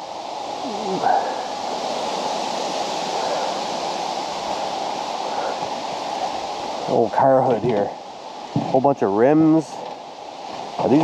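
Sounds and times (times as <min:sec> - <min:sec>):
wind blowing: 0:00.0 - 0:11.0.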